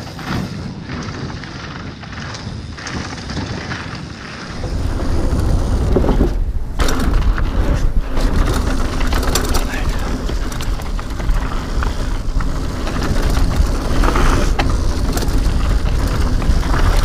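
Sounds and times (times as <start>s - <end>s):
bike rattling over bumps: 0.0s - 17.0s
bike tyres rolling over dirt: 0.0s - 17.0s
wind buffeting microphone: 0.0s - 17.0s.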